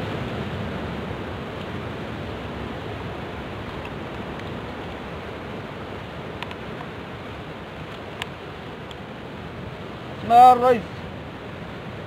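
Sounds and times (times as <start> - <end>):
ocean surf breaking on rocks: 0.0 - 12.0
wind on microphone: 0.0 - 12.0.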